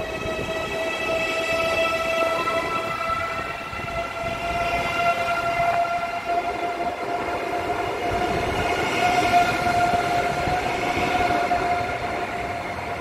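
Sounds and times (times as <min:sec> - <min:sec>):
high train whine: 0:00.0 - 0:13.0
train rumbling: 0:00.0 - 0:13.0.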